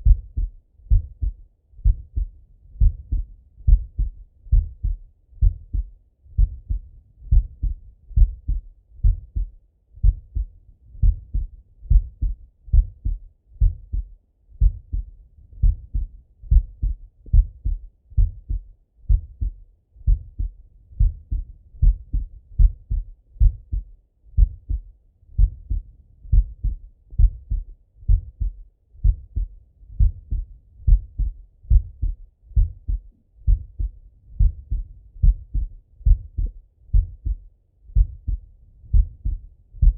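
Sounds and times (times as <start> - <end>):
heart beating through stethoscope: 0.0 - 39.9.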